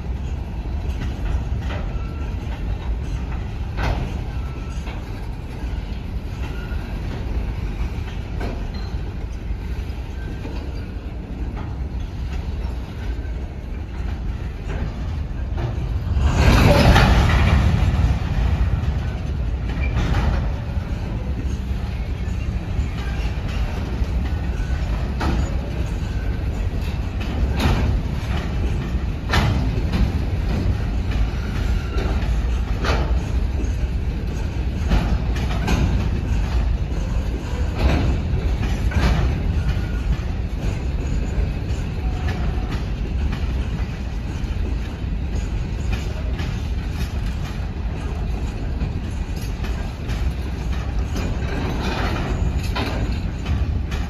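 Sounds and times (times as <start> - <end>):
train rumbling past: 0.0 - 54.0
wheels clicking over rail joints: 0.0 - 54.0.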